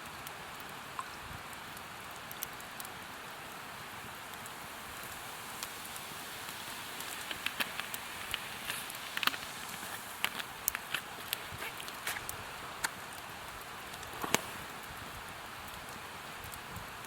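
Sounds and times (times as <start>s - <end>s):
campfire crackles and pops: 0.0s - 17.0s
sizzling hiss: 0.0s - 17.0s.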